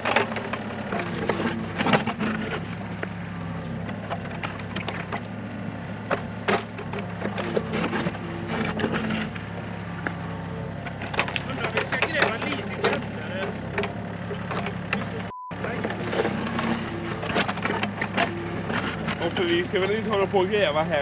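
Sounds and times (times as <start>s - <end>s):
diesel excavator engine running: 0.0s - 21.0s.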